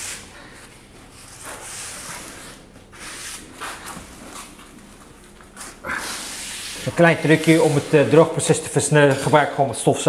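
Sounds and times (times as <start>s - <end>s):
cloth rubbing on tile: 1.1s - 9.4s.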